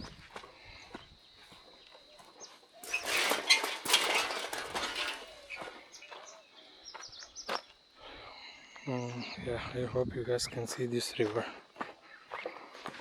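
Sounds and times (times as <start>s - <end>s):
small birds chirping: 0.0s - 3.6s, 4.3s - 12.9s.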